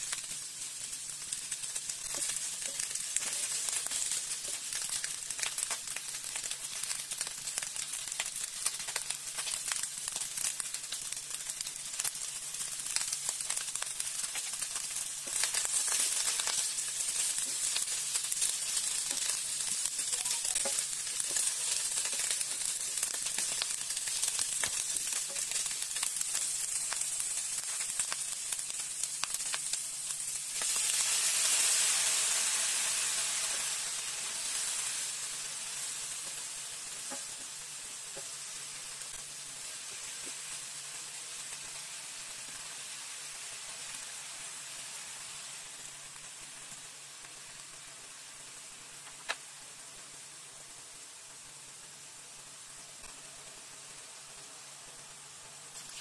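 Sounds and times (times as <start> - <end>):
food sizzling in hot oil: 0.0 - 56.0.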